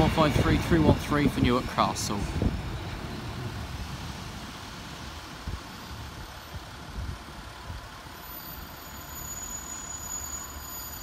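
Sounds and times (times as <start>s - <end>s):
diesel train engine rumble: 0.0s - 11.0s.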